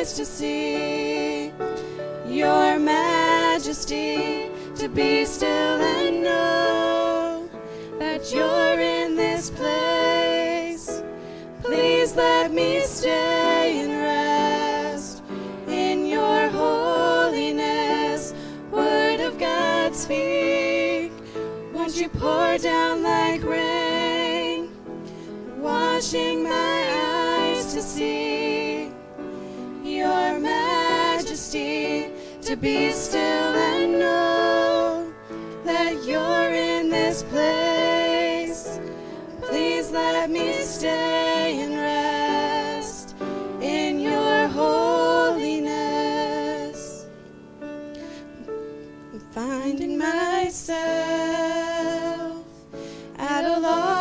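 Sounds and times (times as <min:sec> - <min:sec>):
two women singing a duet: 0:00.0 - 0:47.2, 0:49.1 - 0:54.0.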